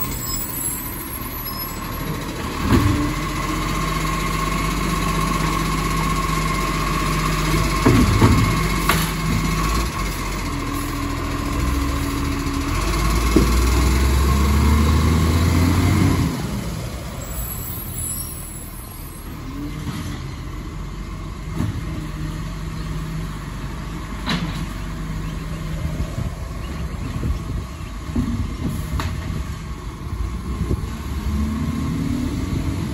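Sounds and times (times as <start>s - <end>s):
garbage truck diesel engine revving: 0.0s - 32.9s.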